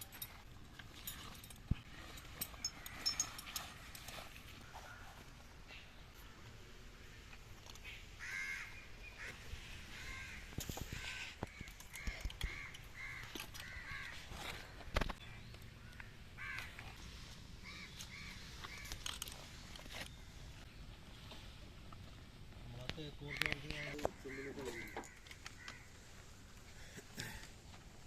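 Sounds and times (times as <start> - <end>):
birds calling: 2.0 - 21.0, 22.9 - 27.5.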